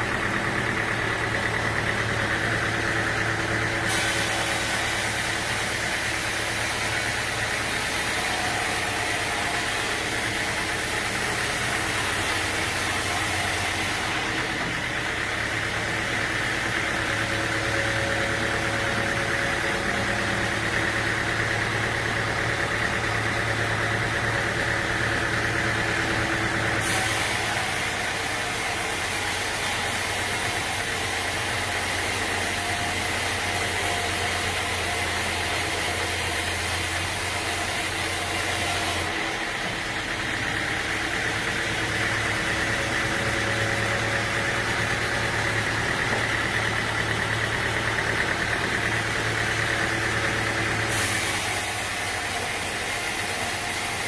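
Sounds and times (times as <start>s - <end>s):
sawmill engine humming with hiss: 0.0s - 54.0s.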